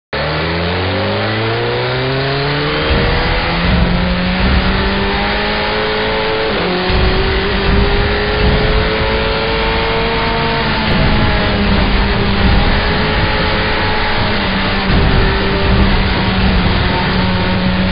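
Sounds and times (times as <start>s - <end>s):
motorcycle engine accelerating: 0.2s - 17.9s
wind rushing: 2.7s - 17.9s.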